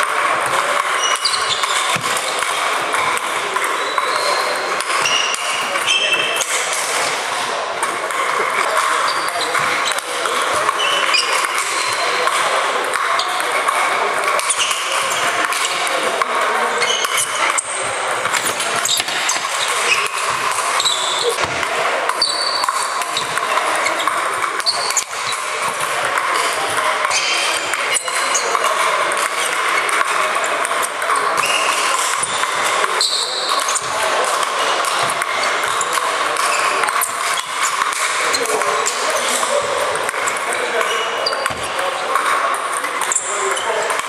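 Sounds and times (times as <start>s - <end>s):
babble of voices: 0.0s - 44.0s
ping pong balls clicking: 0.0s - 44.0s.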